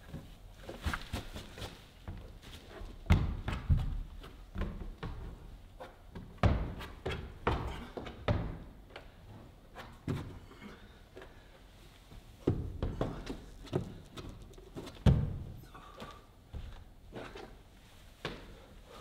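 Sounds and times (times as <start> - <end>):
hands and shoes thudding on climbing holds: 0.0 - 19.0.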